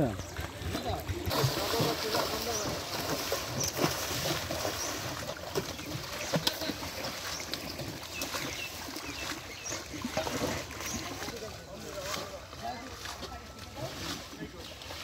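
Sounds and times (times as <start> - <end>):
fish splashing in water: 0.0 - 15.0.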